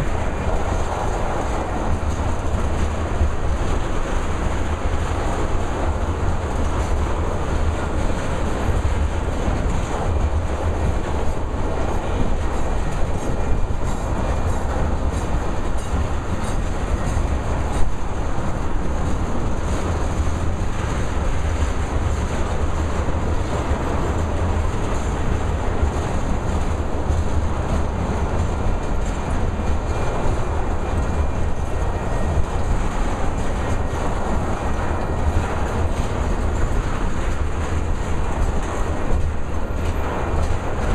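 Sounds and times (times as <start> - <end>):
freight train rumbling past: 0.0 - 40.9
wheels clacking over rail joints: 0.0 - 40.9.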